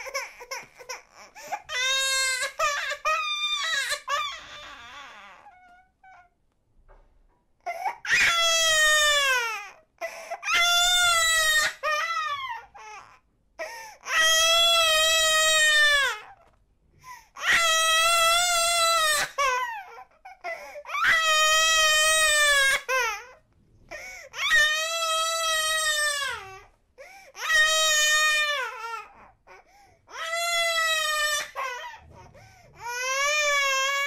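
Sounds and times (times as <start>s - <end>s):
baby crying: 0.0s - 6.3s, 7.6s - 16.5s, 17.4s - 23.4s, 24.0s - 34.0s.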